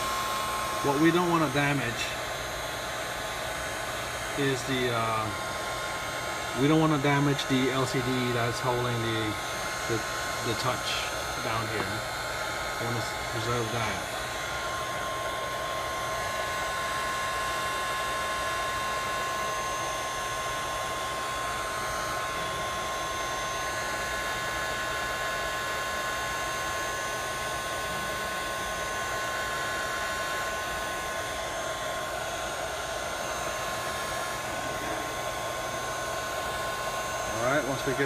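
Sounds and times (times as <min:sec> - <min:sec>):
heat gun blowing with a whine: 0:00.0 - 0:38.0.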